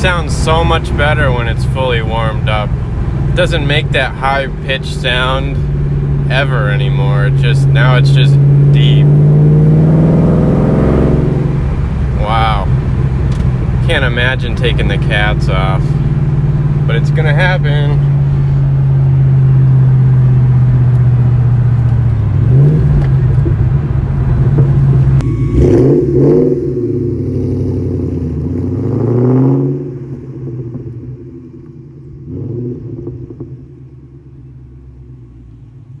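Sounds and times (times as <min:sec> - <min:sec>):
car engine revving while driving: 0:00.0 - 0:33.8.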